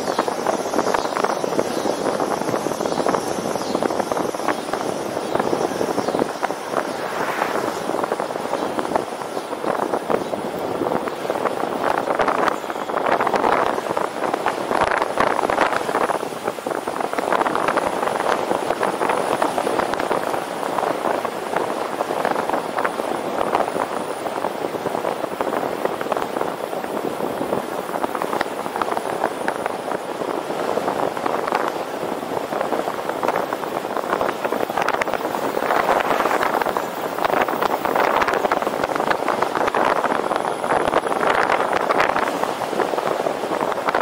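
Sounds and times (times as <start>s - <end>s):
wind and road noise: 0.0s - 44.0s
wind crackles and buffets: 0.0s - 44.0s.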